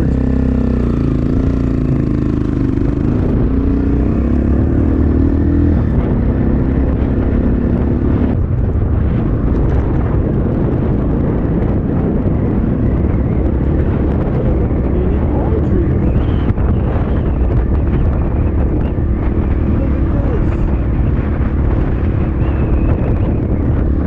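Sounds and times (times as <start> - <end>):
dirt bike engine running: 0.0 - 24.0
wind buffeting microphone: 0.0 - 24.0.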